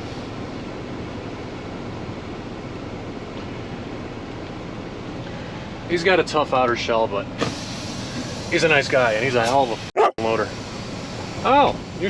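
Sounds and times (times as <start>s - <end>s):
steady rumble and hiss in cab: 0.0s - 12.0s.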